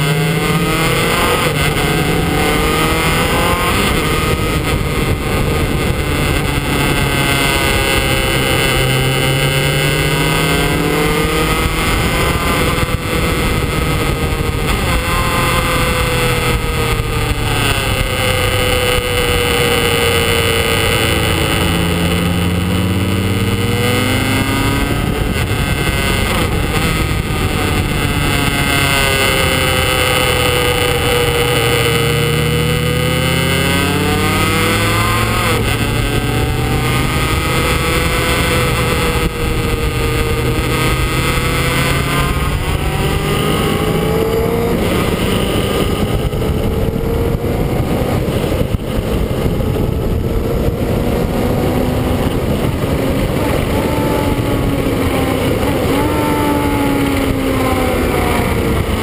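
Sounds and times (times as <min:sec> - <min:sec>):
motorcycle engine running hard: 0:00.0 - 0:59.0
wind noise on microphone: 0:00.0 - 0:59.0.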